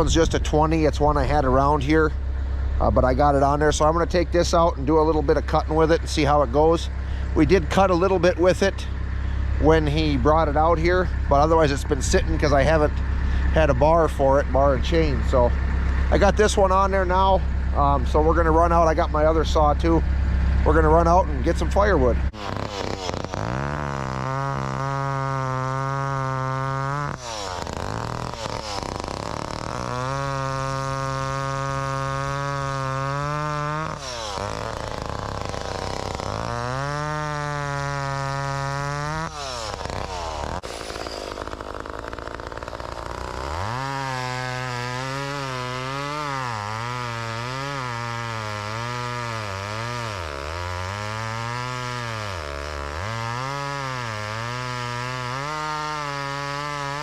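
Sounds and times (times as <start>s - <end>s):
chainsaw revving and cutting wood: 0.0s - 57.0s.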